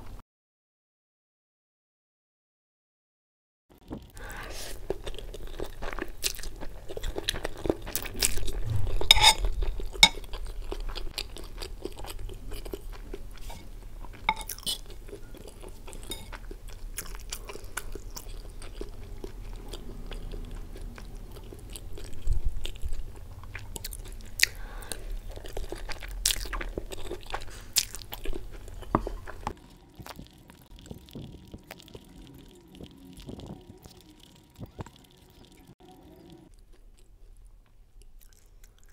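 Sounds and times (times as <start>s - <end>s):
close chewing with wet clicks: 4.1s - 8.6s, 9.8s - 38.9s.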